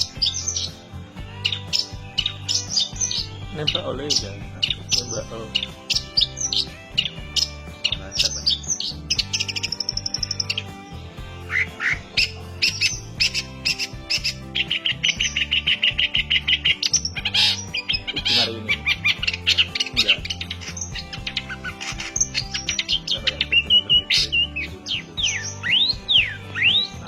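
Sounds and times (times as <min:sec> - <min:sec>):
bird chattering and trilling: 0:00.0 - 0:27.0.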